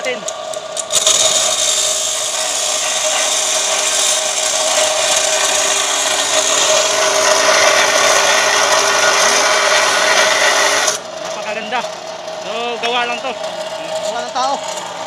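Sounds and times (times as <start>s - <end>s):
cut-off wheel grinding steel pipe: 0.0s - 15.0s.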